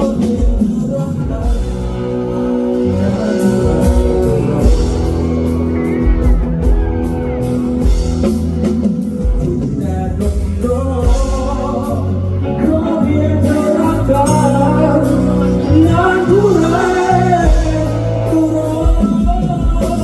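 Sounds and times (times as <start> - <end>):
band playing a song with singing: 0.0 - 20.0.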